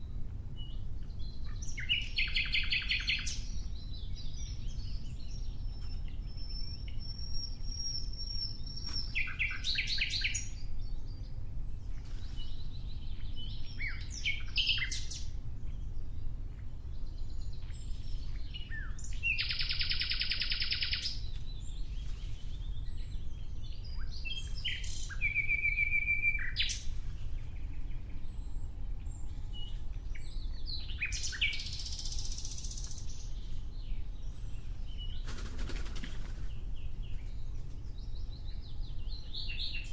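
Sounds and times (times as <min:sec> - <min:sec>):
steady low rumble: 0:00.0 - 0:19.4, 0:21.1 - 0:35.5
nightingale singing: 0:00.0 - 0:35.4, 0:36.6 - 0:39.9.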